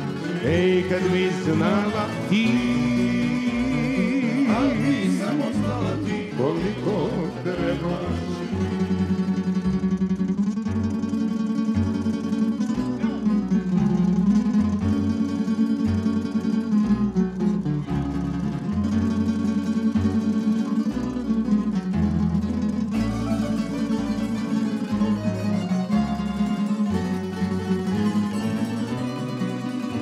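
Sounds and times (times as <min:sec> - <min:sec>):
plucked-string ensemble: 0:00.0 - 0:30.0.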